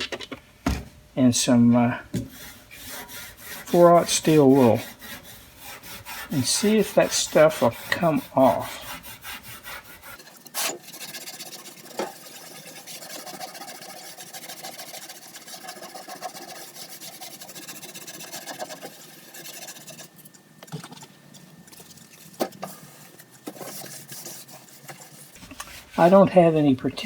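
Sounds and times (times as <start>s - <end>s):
steel wool scrubbing metal: 2.2s - 20.5s, 21.6s - 27.0s.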